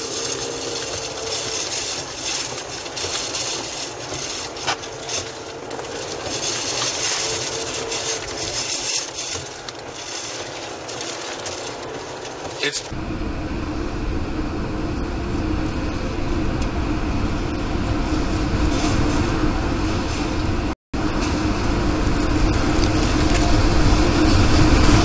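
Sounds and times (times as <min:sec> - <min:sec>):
car road and wind noise: 0:00.0 - 0:25.0.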